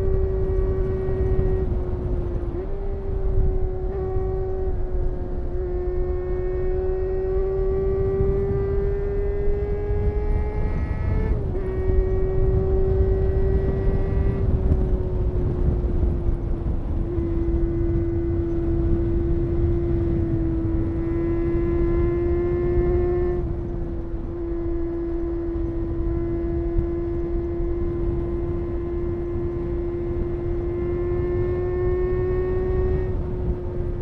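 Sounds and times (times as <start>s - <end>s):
low wind rumble: 0.0s - 34.0s
motorcycle engine at high revs: 0.0s - 34.0s.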